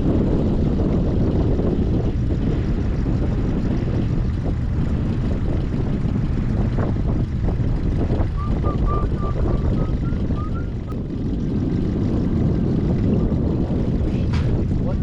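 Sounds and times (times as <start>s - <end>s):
motorboat engine rumble: 0.0s - 15.0s.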